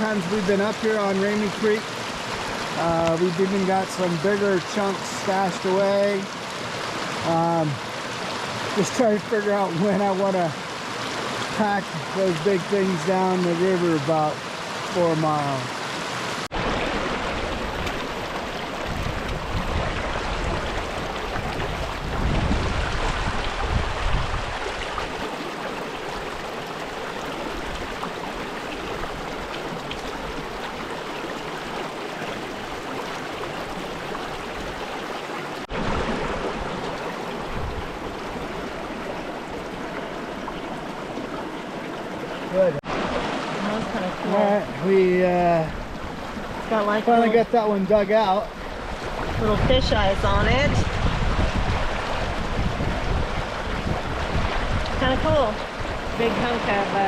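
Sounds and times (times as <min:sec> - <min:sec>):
creek rushing over rocks: 0:00.0 - 0:57.0.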